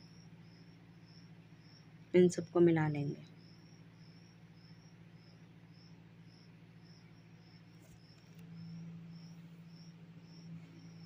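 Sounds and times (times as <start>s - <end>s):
cricket chirping: 0.0s - 11.0s
low hum: 0.0s - 11.0s.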